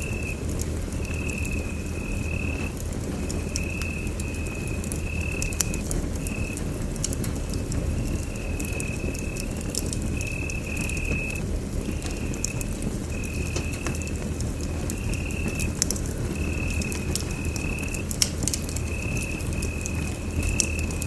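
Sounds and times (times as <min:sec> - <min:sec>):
fire pops: 0:00.0 - 0:21.0
wood fire crackling: 0:00.0 - 0:21.0.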